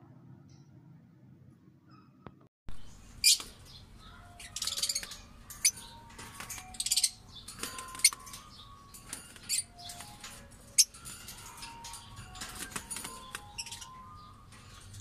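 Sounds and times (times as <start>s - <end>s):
lovebirds chirping: 2.7s - 15.0s.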